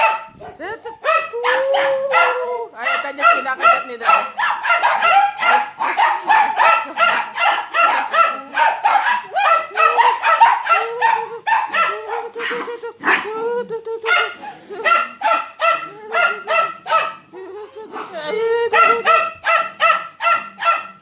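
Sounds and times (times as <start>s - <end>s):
dogs barking and yipping: 0.0s - 21.0s.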